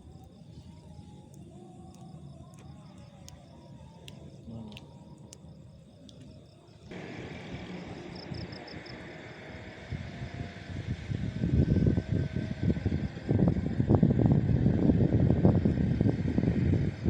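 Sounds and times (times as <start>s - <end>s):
faint insects chirping: 0.0s - 17.0s
wind rumbling on microphone: 0.0s - 17.0s.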